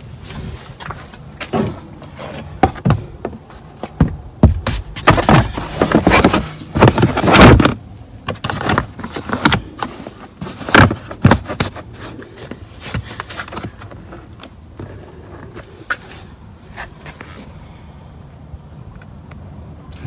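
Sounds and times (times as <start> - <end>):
rubber floor mat scraping and knocking: 0.2 - 17.5.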